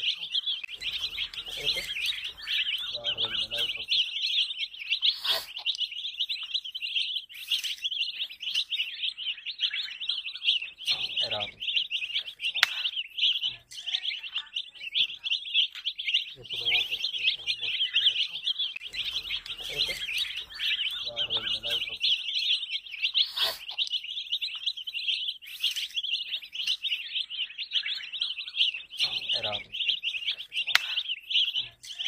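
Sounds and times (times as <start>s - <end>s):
baby chicks peeping: 0.0s - 32.0s.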